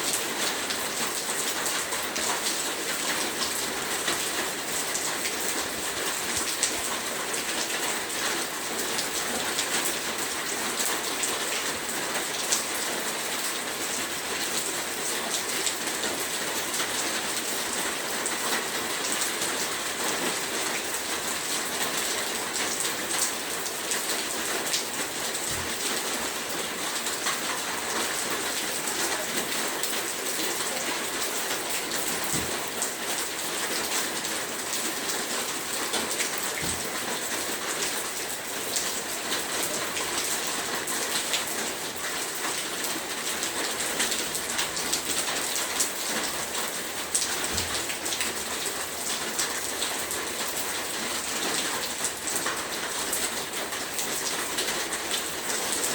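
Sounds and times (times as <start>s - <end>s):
heavy rain on a surface: 0.0s - 55.9s.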